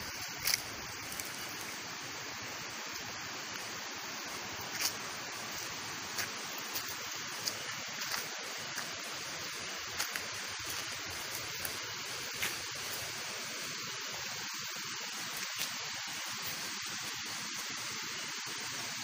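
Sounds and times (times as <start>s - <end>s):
water running in a channel: 0.0s - 19.0s.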